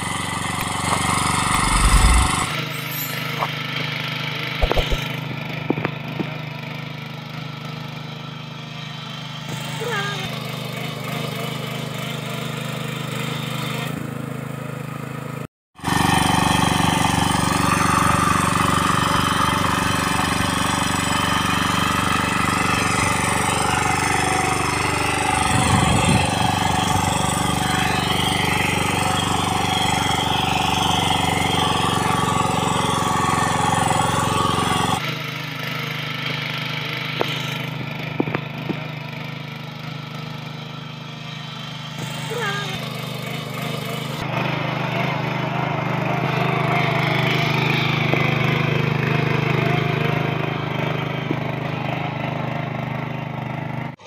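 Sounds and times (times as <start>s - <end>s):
small engines of power tillers: 0.0s - 54.0s.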